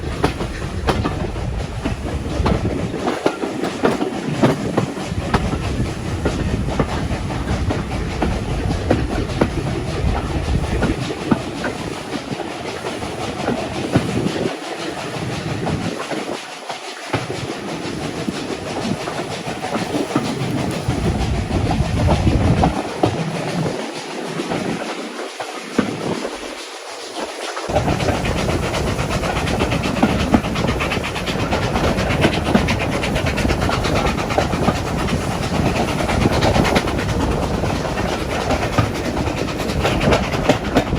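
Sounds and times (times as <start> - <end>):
railway carriage rumbling: 0.0 - 40.9
wheels clacking over rail joints: 0.0 - 40.9.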